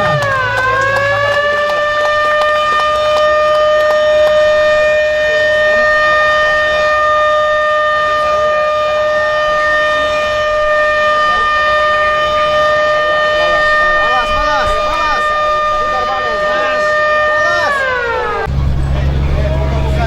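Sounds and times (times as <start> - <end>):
loud steady signal horn: 0.0 - 18.5.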